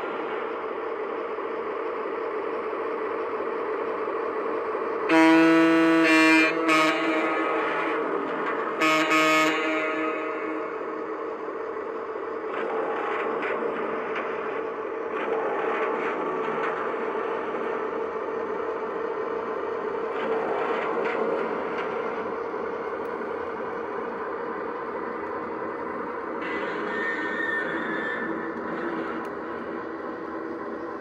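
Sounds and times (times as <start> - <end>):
model train wheels rumbling: 0.0 - 31.0.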